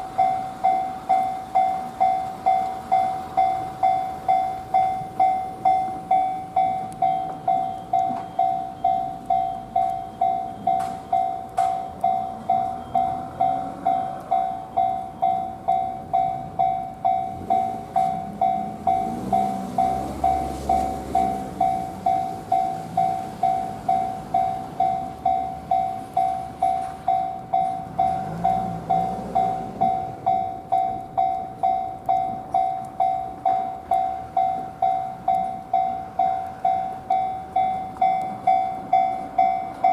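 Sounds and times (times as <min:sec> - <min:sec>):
level crossing alarm bell ringing: 0:00.0 - 0:39.9.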